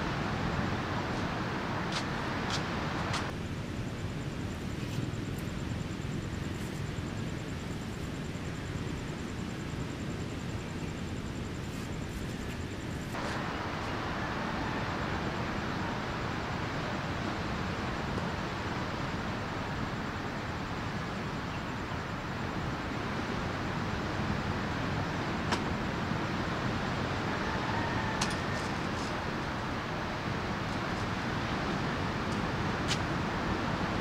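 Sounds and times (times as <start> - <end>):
rushing outdoor ambience: 0.0 - 34.0.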